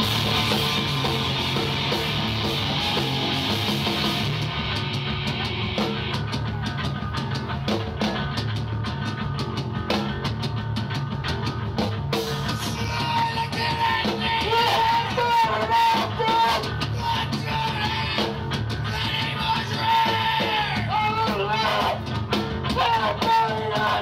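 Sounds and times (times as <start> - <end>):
bass guitar: 0.0 - 24.0
distorted electric guitars: 0.0 - 24.0
driving drum beat: 0.0 - 24.0.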